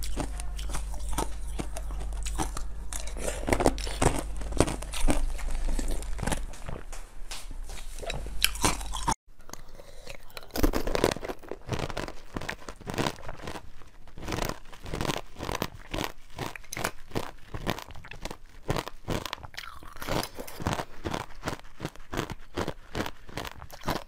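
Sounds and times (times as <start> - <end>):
wet chewing and crunching: 0.0 - 7.0, 7.7 - 24.0.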